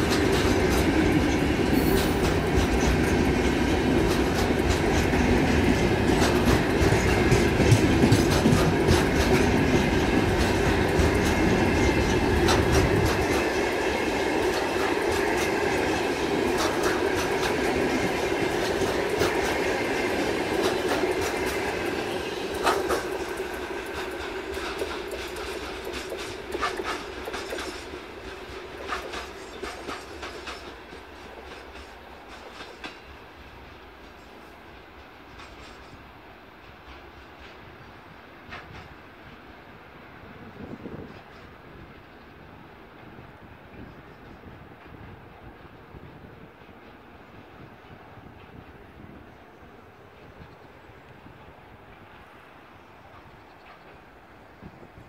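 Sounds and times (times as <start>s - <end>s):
train wheels clacking over rail joints: 0.0s - 37.8s, 38.4s - 39.6s, 43.8s - 55.0s.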